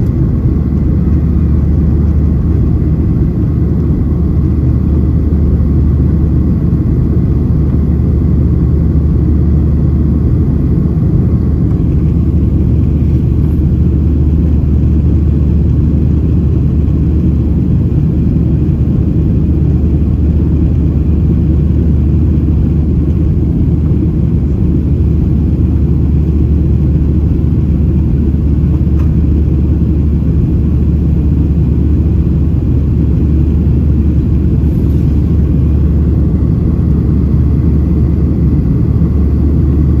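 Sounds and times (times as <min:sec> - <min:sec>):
jet engine low rumble: 0:00.0 - 0:40.0.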